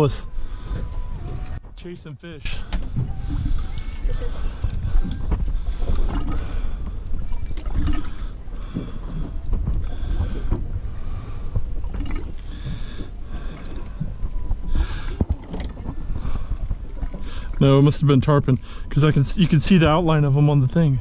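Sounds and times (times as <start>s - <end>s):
wind rumbling on microphone: 0.0s - 21.0s
water lapping at boat hull: 2.5s - 21.0s.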